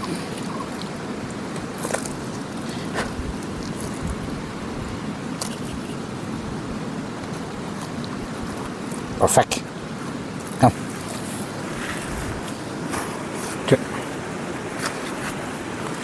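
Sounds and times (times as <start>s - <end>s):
mountain river rushing: 0.0s - 16.0s.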